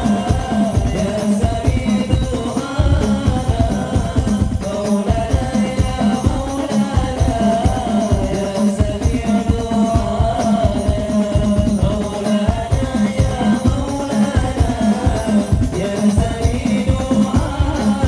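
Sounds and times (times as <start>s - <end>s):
devotional singing: 0.0s - 18.0s
frame drums rhythm: 0.0s - 18.0s.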